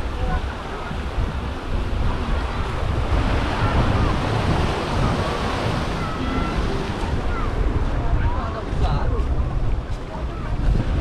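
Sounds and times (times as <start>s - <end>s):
sea water washing: 0.0s - 11.0s
wind buffeting microphone: 0.0s - 11.0s.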